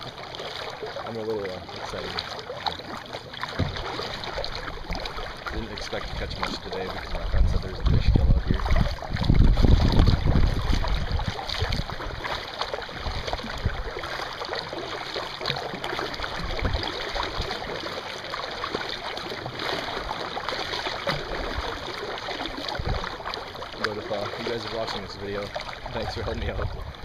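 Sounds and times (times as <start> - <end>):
paddle strokes in water: 0.0 - 27.0
water splashing and dripping: 0.0 - 27.0.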